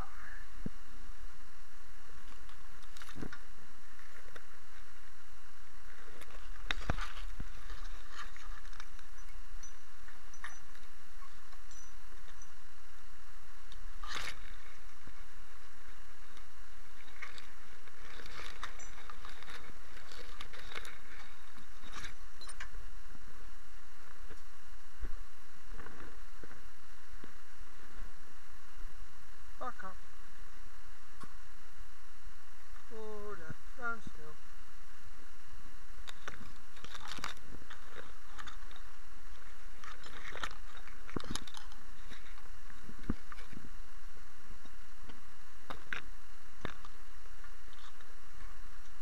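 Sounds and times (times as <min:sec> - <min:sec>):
steady low background noise: 0:00.0 - 0:49.0
steady low hum: 0:00.0 - 0:49.0
rustling in long grass: 0:01.4 - 0:28.9, 0:35.0 - 0:49.0.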